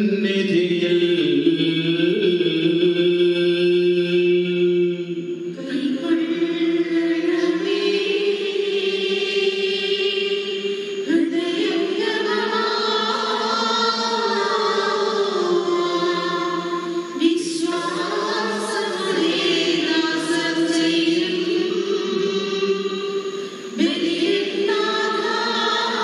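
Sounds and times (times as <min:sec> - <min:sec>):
choir singing a chant: 0:00.0 - 0:26.0.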